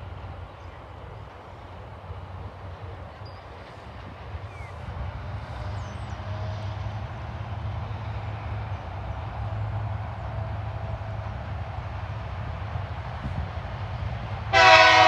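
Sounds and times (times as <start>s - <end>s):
distant diesel locomotive drone: 0.0s - 15.0s.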